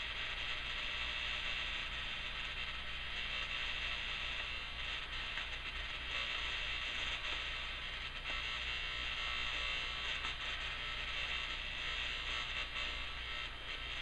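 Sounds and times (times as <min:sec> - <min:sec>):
static: 0:00.0 - 0:14.0.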